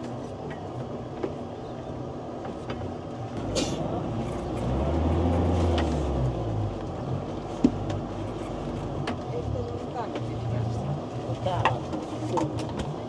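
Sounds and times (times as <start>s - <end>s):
diesel boat engine running: 0.0s - 13.0s.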